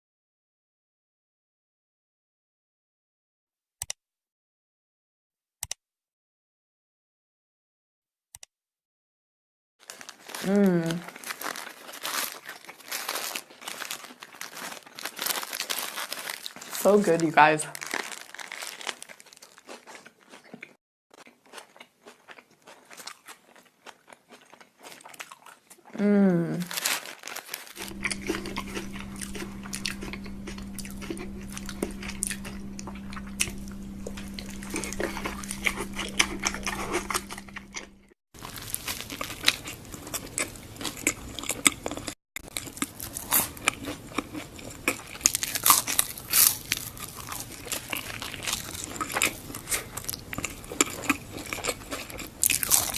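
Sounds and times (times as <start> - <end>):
crunching and chewing snacks: 9.8 - 26.0, 26.6 - 52.9.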